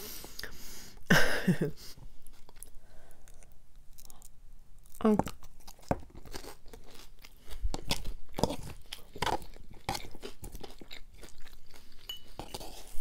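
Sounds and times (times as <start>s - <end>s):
crisp chewing of salad: 2.2s - 13.0s.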